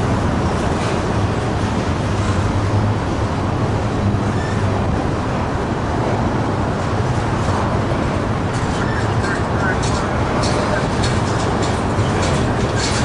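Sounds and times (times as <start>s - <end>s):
diesel engine hum: 0.0s - 13.0s
train wheels rumbling on rail: 0.0s - 13.0s.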